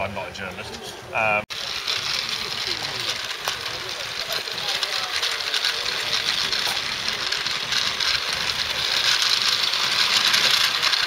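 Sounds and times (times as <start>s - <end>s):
model train rattling on track: 1.5s - 11.0s.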